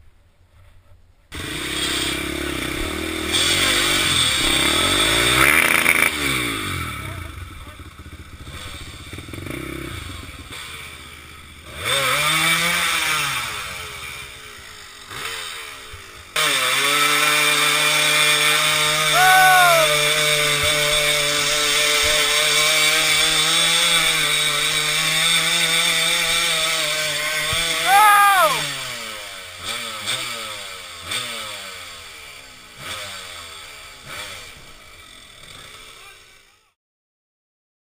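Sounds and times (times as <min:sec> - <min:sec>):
dirt bike engine revving: 0:01.3 - 0:36.4.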